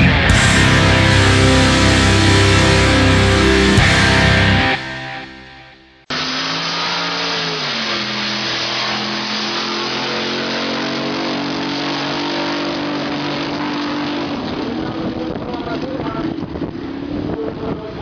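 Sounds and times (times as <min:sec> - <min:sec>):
boat engine running: 0:00.0 - 0:05.4, 0:06.1 - 0:17.0.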